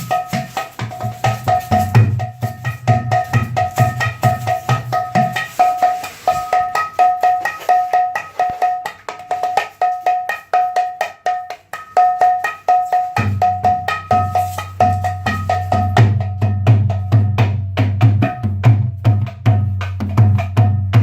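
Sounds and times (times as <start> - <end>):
ringing high drum strokes: 0.0 - 21.0.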